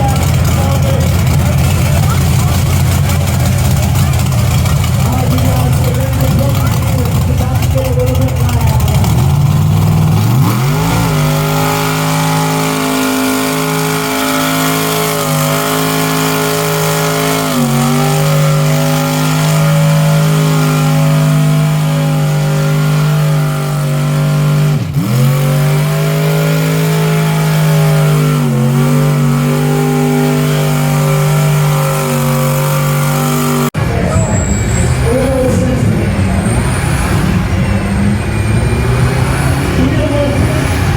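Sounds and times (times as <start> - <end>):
truck engine at high revs: 0.0 - 40.9.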